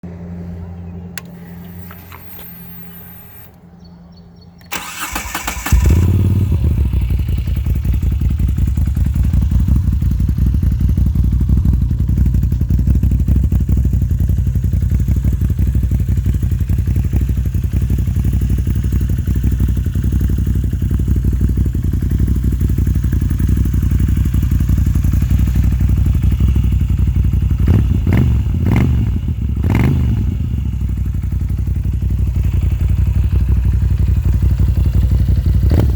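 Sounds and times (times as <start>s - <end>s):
motorcycle throttle blips: 0.8s - 35.9s
motorcycle engine starting and idling: 0.9s - 35.9s.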